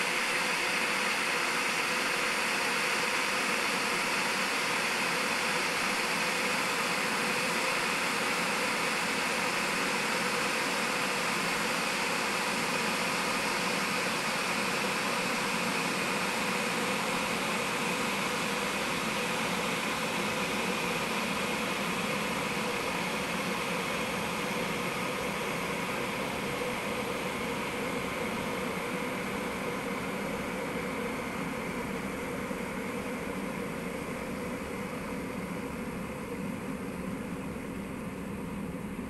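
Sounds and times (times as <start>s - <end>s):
kettle heating water: 0.0s - 39.0s.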